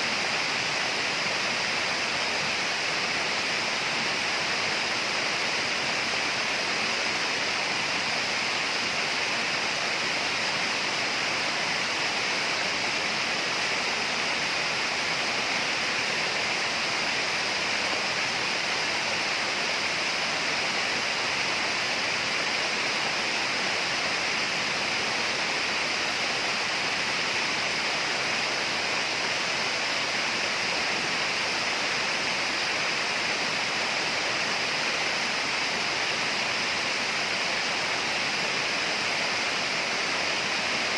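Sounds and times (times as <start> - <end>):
rainforest rushing hiss: 0.0 - 40.9.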